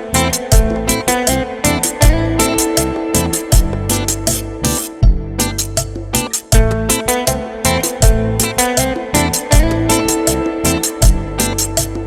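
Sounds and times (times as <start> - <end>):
bass line: 0.0 - 12.0
plucked guitar: 0.0 - 12.0
steady drum beat: 0.2 - 12.0.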